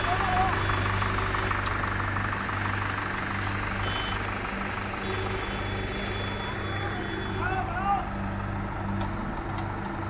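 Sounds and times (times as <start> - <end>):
heavy vehicle engine humming: 0.0 - 10.0.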